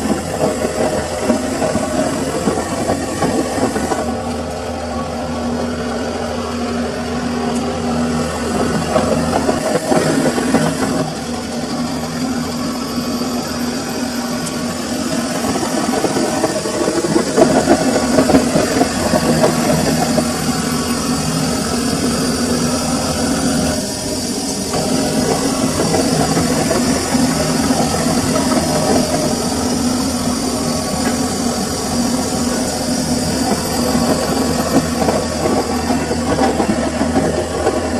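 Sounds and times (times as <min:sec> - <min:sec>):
washing machine running: 0:00.0 - 0:37.9.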